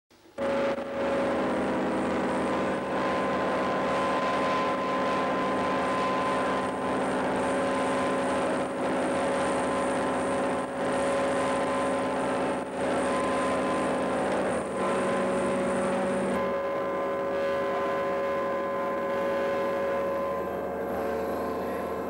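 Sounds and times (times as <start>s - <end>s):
industrial noise music drone: 0.4s - 22.0s.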